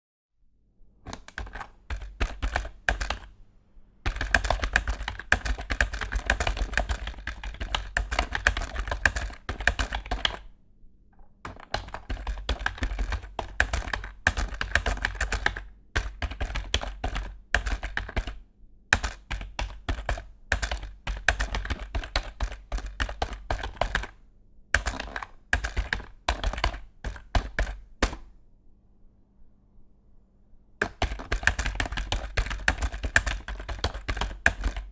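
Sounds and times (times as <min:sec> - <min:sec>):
fast typing on keyboard: 0:01.1 - 0:03.3, 0:04.0 - 0:10.5, 0:11.5 - 0:24.2, 0:24.8 - 0:28.2, 0:30.8 - 0:34.9.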